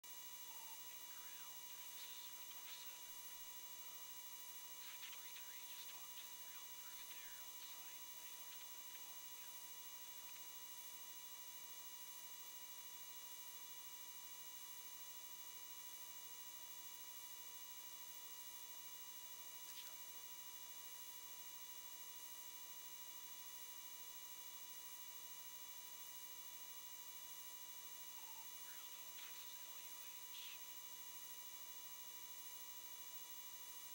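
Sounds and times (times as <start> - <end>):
faint electrical hum: 0.0 - 33.9.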